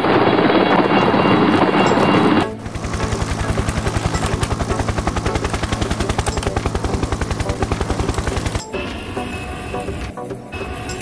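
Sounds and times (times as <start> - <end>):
helicopter rotor blades chopping: 0.0 - 11.0.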